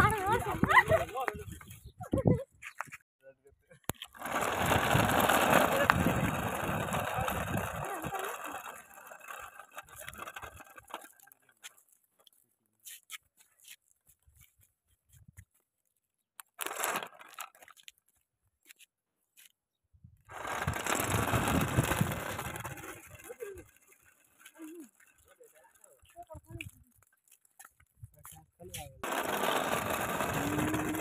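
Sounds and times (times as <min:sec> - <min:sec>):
cart wheels rolling on asphalt: 0:00.0 - 0:01.9, 0:03.9 - 0:14.5, 0:16.5 - 0:18.2, 0:20.3 - 0:31.0.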